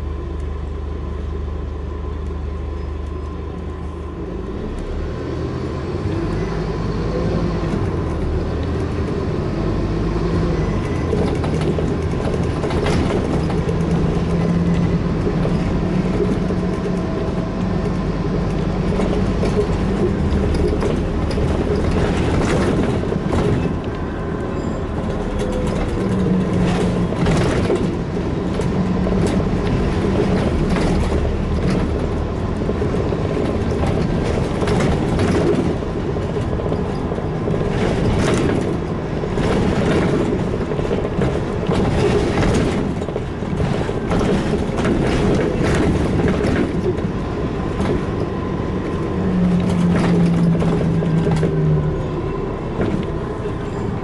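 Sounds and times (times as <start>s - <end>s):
bus body rattling: 0.0s - 54.0s
bus diesel engine running: 0.0s - 54.0s
road noise: 0.0s - 54.0s.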